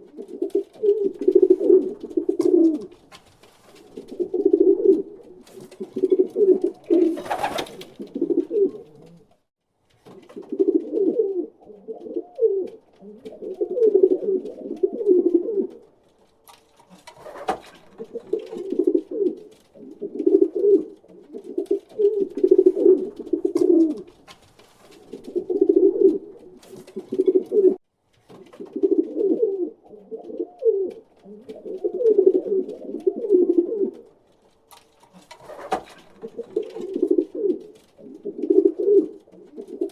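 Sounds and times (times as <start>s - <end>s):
pigeon cooing: 0.0s - 3.0s, 3.8s - 9.4s, 10.3s - 15.9s, 17.2s - 24.1s, 25.0s - 27.8s, 28.5s - 34.1s, 35.2s - 39.9s.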